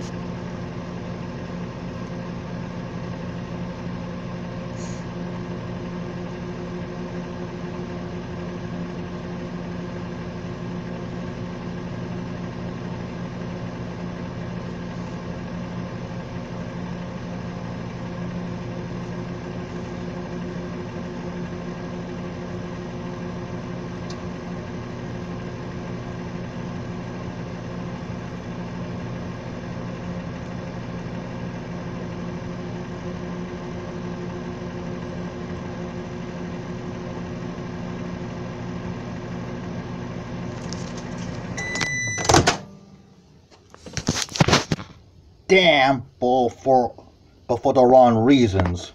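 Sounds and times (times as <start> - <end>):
microwave oven humming: 0.0 - 48.9.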